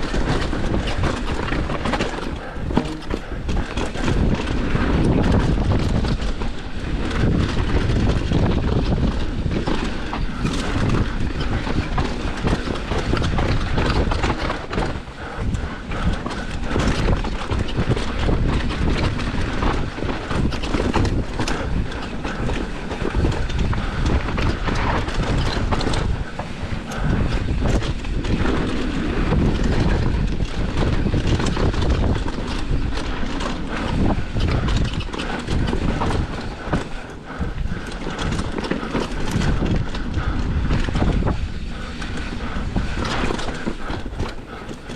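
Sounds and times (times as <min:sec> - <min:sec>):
low rumble of wind: 0:00.0 - 0:44.9.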